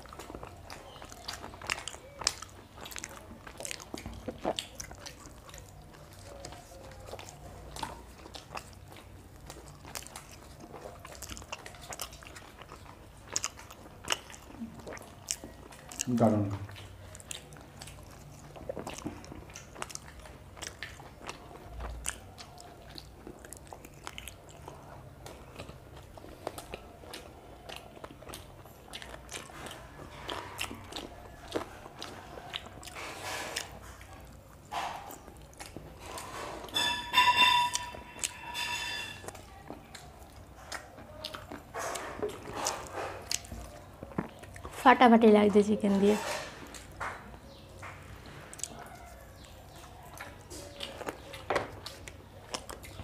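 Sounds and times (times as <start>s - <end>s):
people chewing food: 0.0s - 53.0s.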